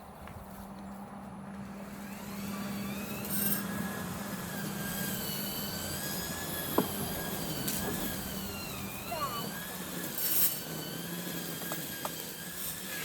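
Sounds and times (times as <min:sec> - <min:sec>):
string trimmer whining: 0:01.6 - 0:13.0.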